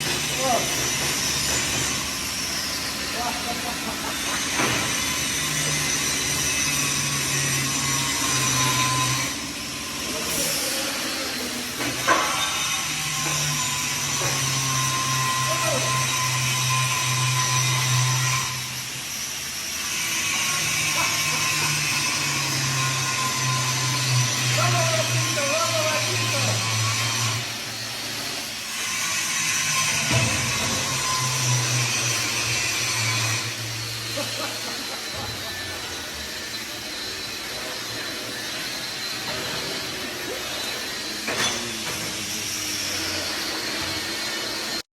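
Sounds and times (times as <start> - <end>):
power tool motor running: 0.0 - 44.9.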